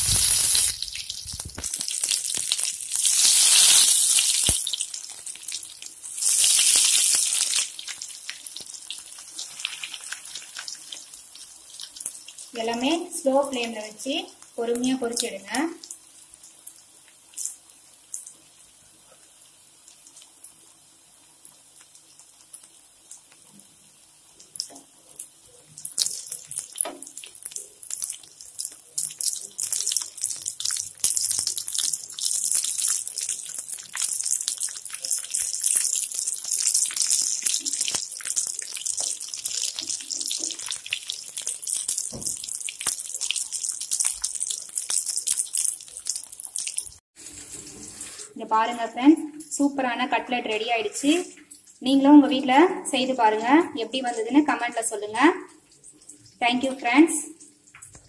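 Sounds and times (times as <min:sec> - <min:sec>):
cutlets deep-frying in oil: 0:00.0 - 0:58.0.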